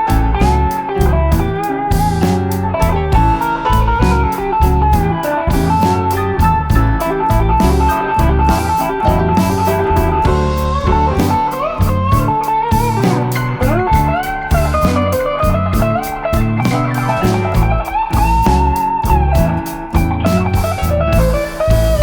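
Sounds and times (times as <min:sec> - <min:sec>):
bass line: 0:00.0 - 0:22.0
lead guitar with bending notes: 0:00.0 - 0:22.0
steady beat: 0:00.0 - 0:22.0.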